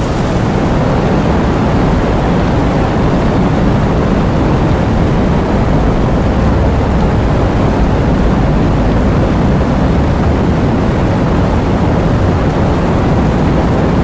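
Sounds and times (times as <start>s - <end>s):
heavy rain and wind: 0.0s - 14.0s.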